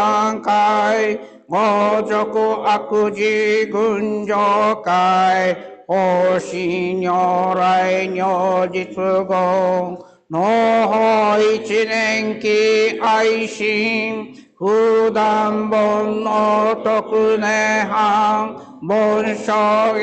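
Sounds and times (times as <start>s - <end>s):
sutra chanting: 0.0s - 20.0s.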